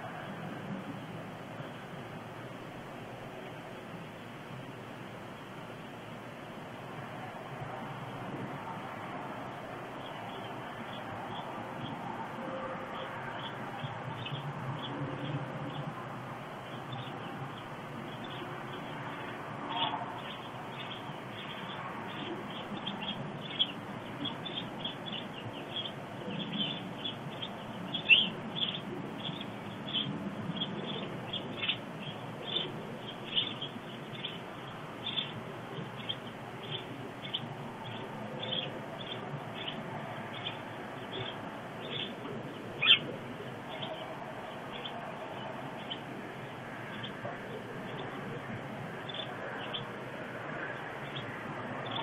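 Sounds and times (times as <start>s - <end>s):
birds chirping: 0.0s - 52.0s
steady outdoor hum: 0.0s - 52.0s.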